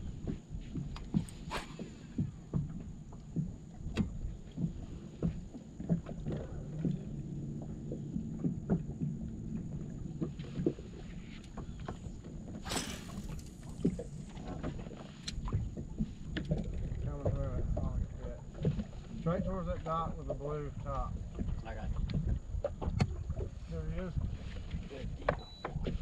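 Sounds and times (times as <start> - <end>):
waves lapping against boat hull: 0.0 - 26.0.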